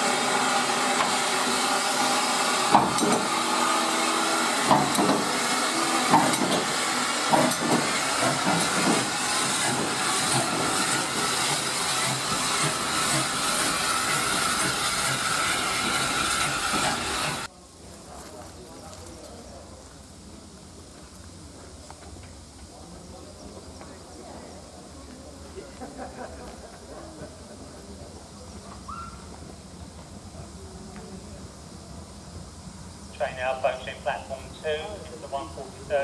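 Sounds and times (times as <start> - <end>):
steam locomotive hissing steam: 0.0 - 36.0.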